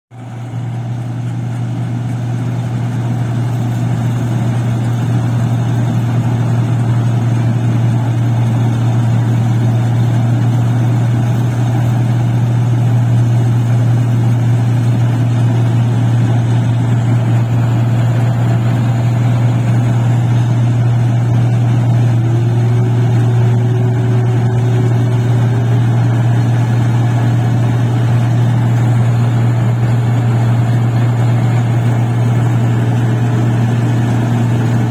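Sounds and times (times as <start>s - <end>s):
machine engine humming: 0.2s - 34.9s.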